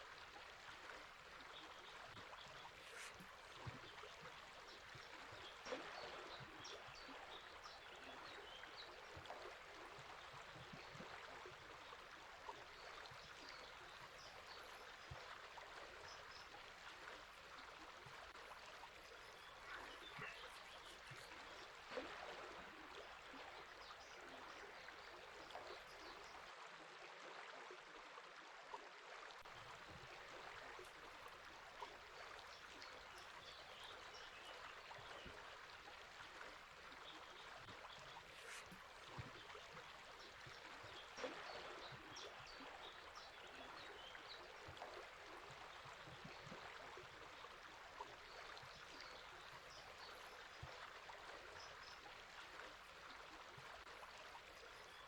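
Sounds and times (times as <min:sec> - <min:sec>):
river flowing: 0:00.0 - 0:26.5, 0:29.5 - 0:55.0.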